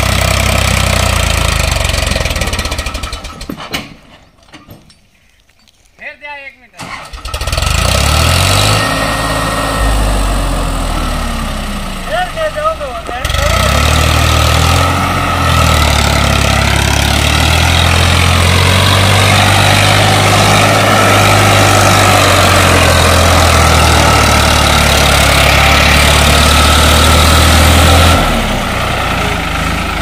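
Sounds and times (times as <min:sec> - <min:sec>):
tractor diesel engine under load: 0:00.0 - 0:05.0, 0:06.8 - 0:30.0.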